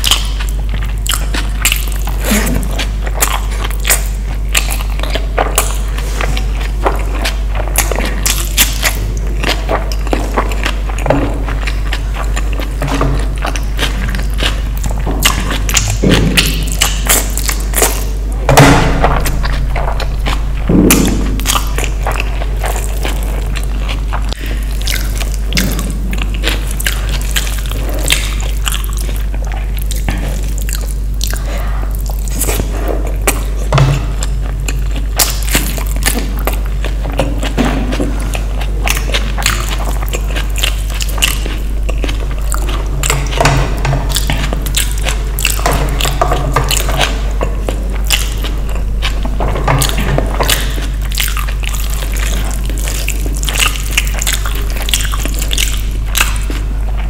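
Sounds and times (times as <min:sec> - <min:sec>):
steady low hum: 0:00.0 - 0:57.0
wet chewing and mouth clicks: 0:00.0 - 0:57.0.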